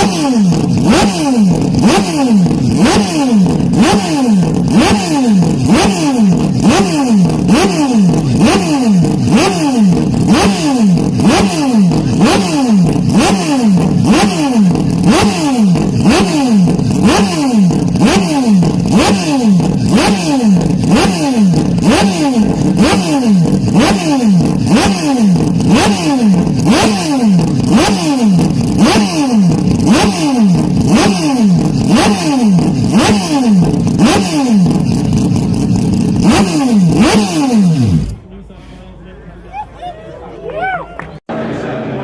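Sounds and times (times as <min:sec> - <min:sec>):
race car engine revving: 0:00.0 - 0:38.3.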